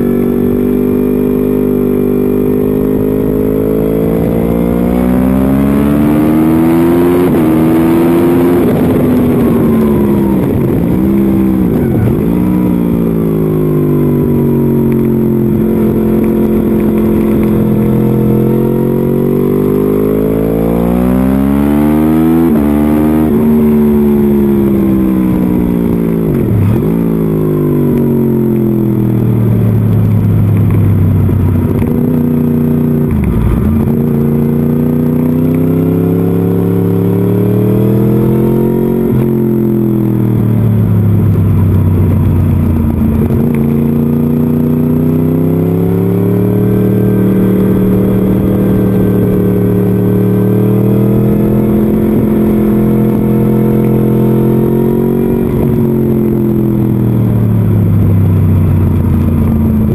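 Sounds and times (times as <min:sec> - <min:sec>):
motorcycle engine accelerating: 0:00.0 - 0:59.9
wind noise on microphone: 0:04.0 - 0:34.8, 0:35.8 - 0:59.9.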